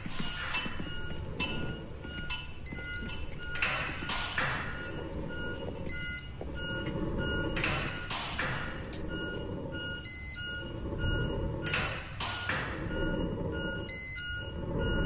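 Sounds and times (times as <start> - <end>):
patient monitor beeps: 0.0 - 15.0.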